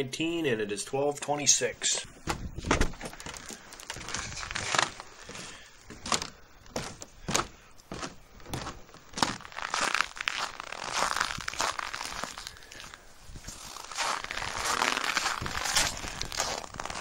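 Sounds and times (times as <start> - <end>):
footsteps crunching on frozen snow: 3.0 - 17.0.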